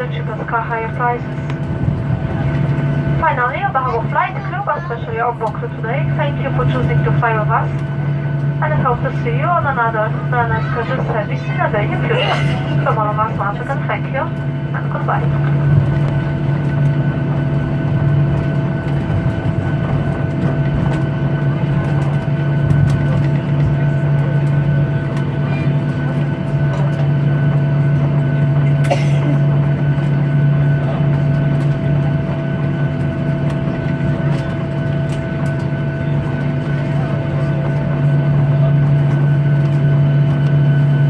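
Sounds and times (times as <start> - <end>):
aircraft rolling noise: 0.0 - 41.0
jet engines idling in cabin: 0.0 - 41.0.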